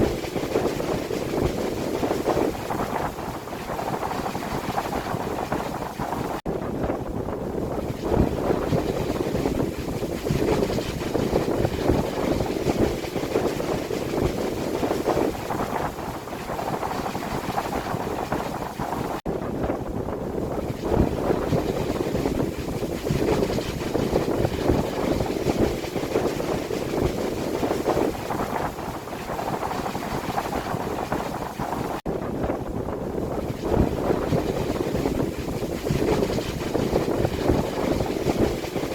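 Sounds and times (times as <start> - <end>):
gusty wind: 0.0 - 38.9
wind buffeting microphone: 0.0 - 38.9.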